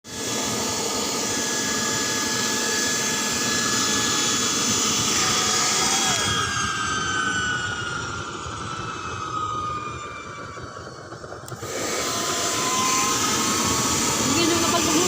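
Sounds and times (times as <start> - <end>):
turbojet engine whine and rush: 0.0 - 15.0.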